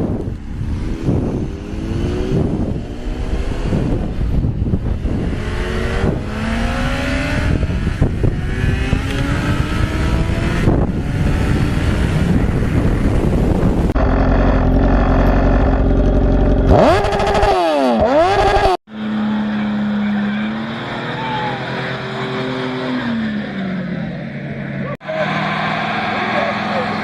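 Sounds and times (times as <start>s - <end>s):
vehicle engine accelerating: 0.0s - 27.0s.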